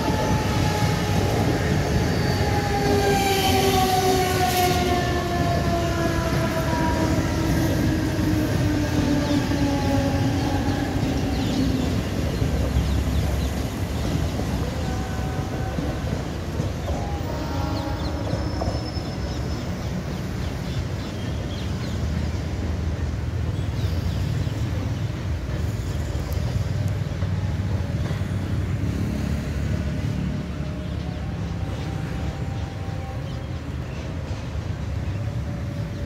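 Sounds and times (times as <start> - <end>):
traffic hum: 0.0 - 36.0
train rumbling: 0.0 - 36.0.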